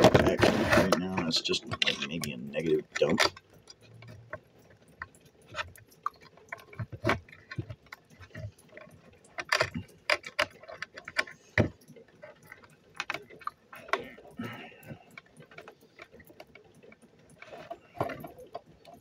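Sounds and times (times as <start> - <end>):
small hard parts clicking: 0.0 - 19.0.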